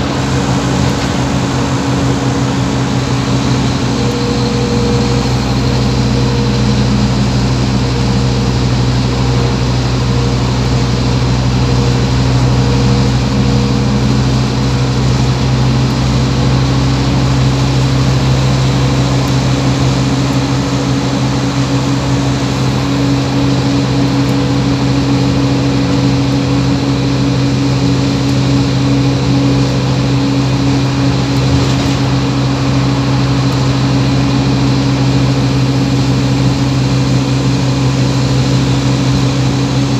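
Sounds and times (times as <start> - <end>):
bus engine droning: 0.0 - 39.9.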